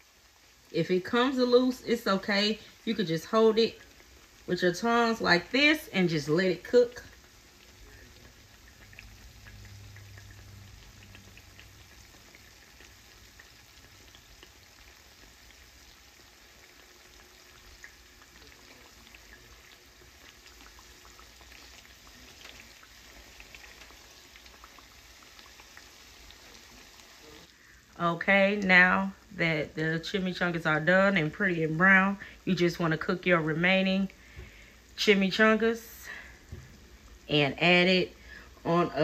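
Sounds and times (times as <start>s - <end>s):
oil sizzling and popping: 0.0s - 39.0s.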